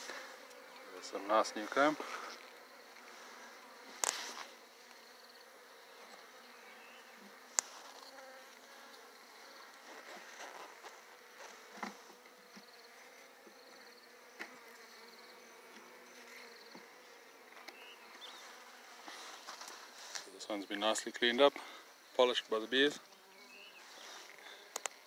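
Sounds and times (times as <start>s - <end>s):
honey bees buzzing: 0.0s - 25.0s.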